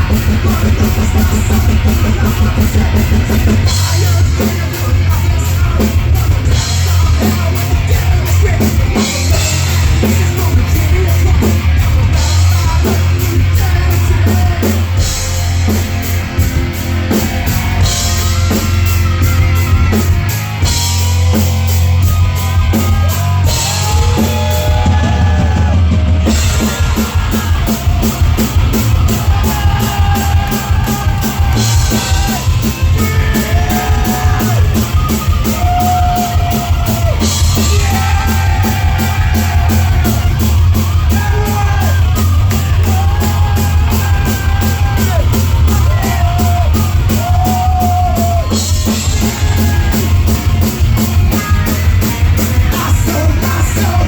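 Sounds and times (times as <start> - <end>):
distorted guitars: 0.0 - 54.0
fast steady drums: 0.0 - 54.0
heavy metal band playing: 0.0 - 54.0.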